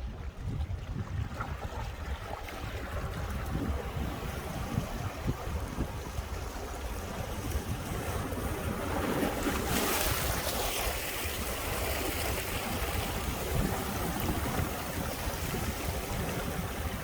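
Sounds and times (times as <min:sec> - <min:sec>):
sea waves breaking on rocks: 0:01.2 - 0:17.0.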